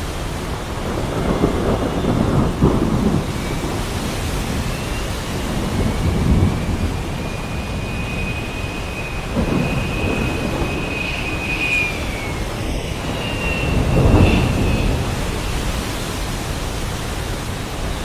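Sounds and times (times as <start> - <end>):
heavy rain hissing: 0.0 - 18.0
rolling thunder: 0.0 - 18.0
thin high whistle: 1.1 - 16.6.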